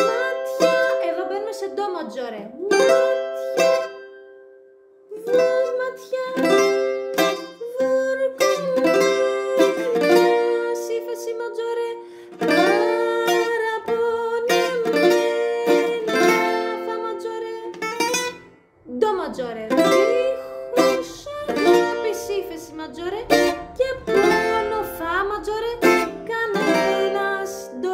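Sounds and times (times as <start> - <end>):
bouzouki melody: 0.0 - 27.9.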